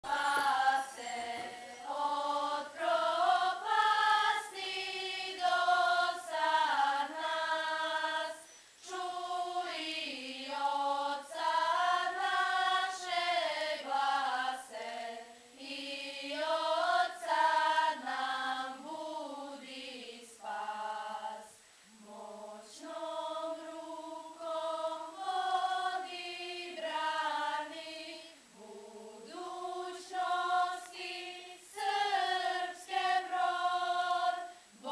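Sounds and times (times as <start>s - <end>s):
girls' choir singing: 0.0s - 34.9s.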